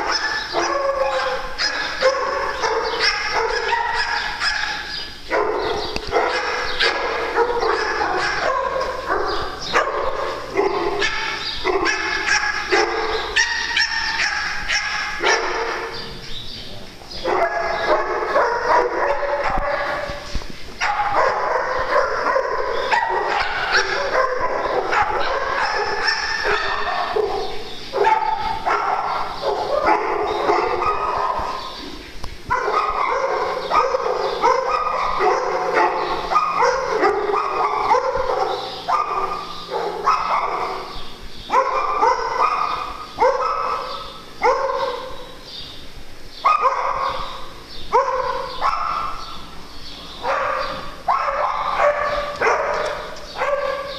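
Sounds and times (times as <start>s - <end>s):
dogs barking and yipping: 0.0s - 53.9s.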